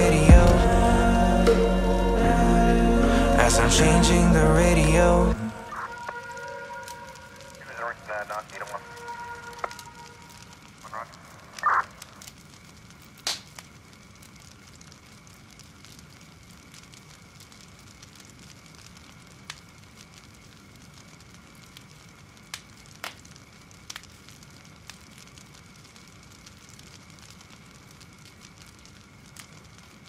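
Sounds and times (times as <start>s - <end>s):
faint crackling hiss: 0.0s - 30.0s.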